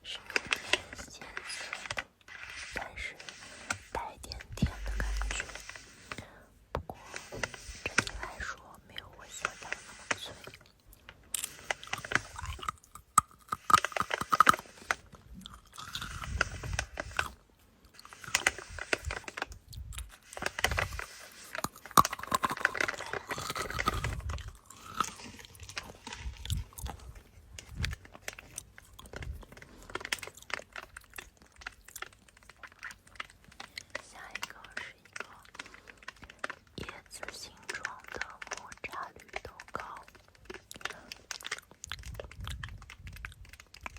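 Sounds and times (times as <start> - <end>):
crunchy crackling clicks: 0.0 - 43.9.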